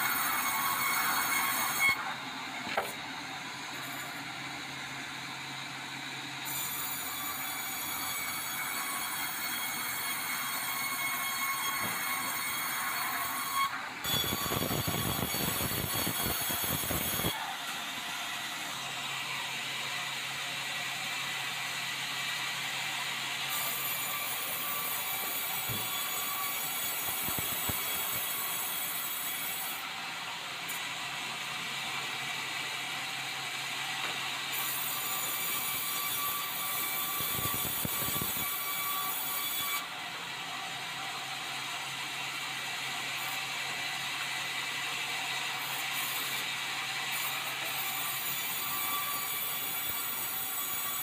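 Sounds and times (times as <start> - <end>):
band saw cutting log: 0.0 - 51.0.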